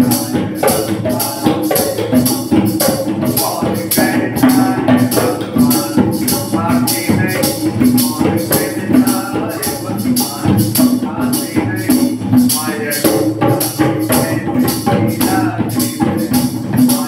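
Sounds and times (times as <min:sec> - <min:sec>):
conga drums played by hand: 0:00.0 - 0:17.0.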